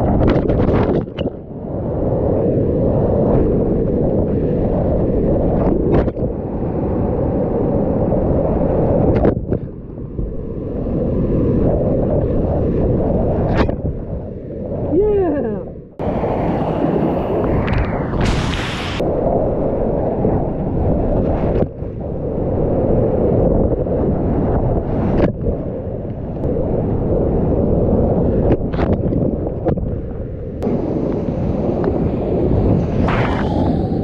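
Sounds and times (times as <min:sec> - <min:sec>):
wind buffeting on microphone: 0:00.0 - 0:34.0.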